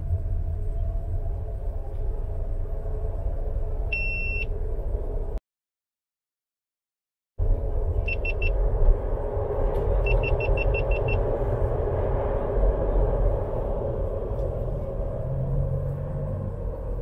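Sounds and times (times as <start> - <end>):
car road rumble: 0.0 - 5.4, 7.4 - 17.0.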